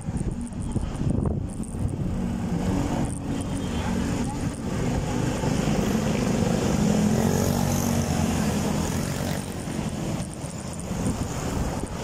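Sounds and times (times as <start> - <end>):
vehicle engine humming: 0.0 - 12.0
wind and road noise: 0.0 - 12.0.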